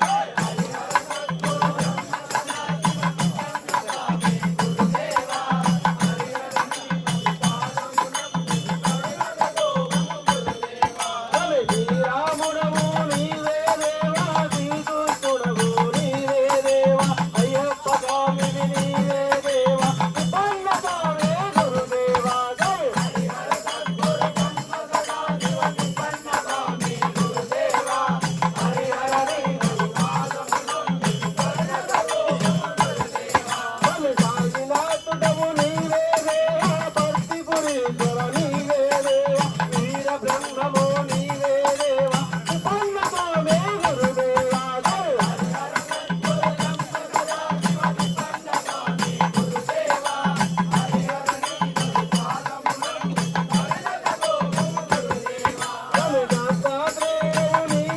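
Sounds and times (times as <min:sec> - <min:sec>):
jingling cymbals: 0:00.0 - 0:57.9.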